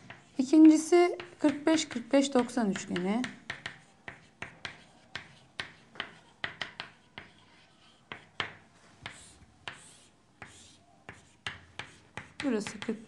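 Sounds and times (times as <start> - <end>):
chalk scraping on chalkboard: 0.0 - 12.9
chalk tapping on chalkboard: 0.0 - 13.0.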